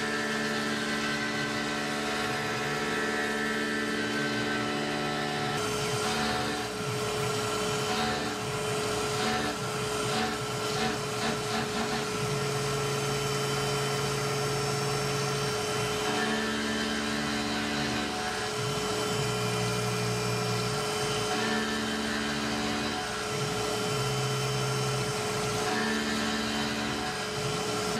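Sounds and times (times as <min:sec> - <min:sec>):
milling machine spindle whine: 0:00.0 - 0:27.9.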